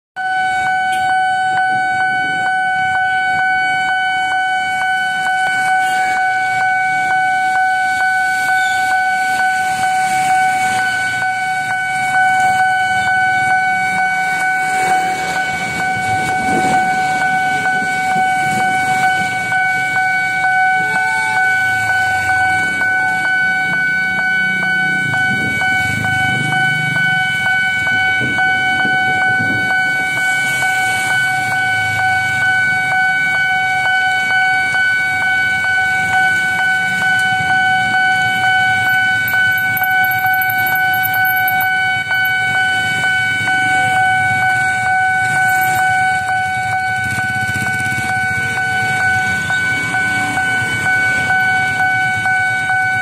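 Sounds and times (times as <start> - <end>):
crossing alarm steady tone: 0.2 - 53.0
vehicles passing on wet road: 0.4 - 53.0.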